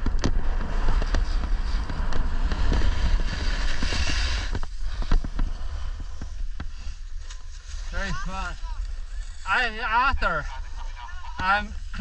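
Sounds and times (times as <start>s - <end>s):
skis scraping on snow: 0.1s - 12.0s.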